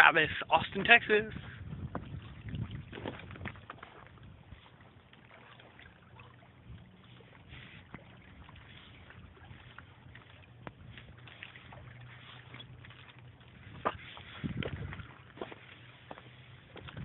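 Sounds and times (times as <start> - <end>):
faint lakeside background noise: 0.0 - 17.0.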